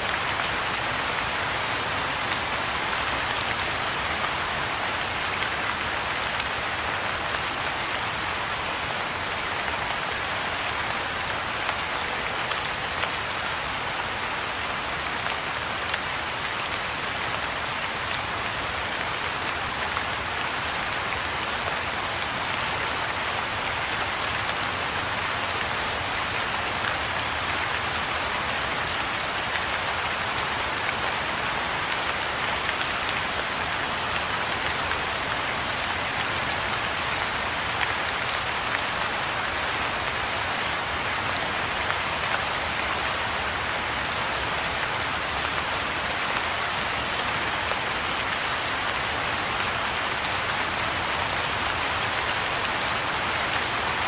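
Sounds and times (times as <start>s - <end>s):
rain falling on pond: 0.0s - 54.0s.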